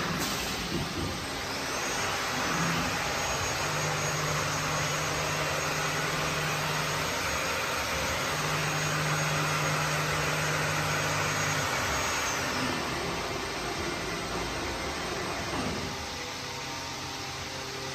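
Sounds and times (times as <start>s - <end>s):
woodworking machine whine: 0.0s - 17.9s.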